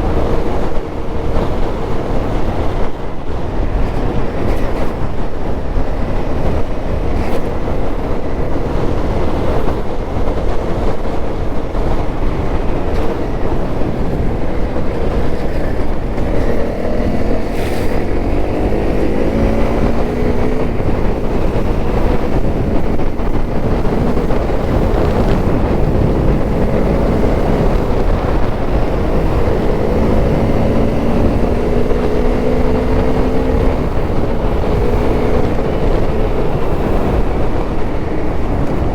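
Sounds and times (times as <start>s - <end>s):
motorcycle engine running under load: 0.0s - 38.9s
wind buffeting microphone: 0.0s - 38.9s.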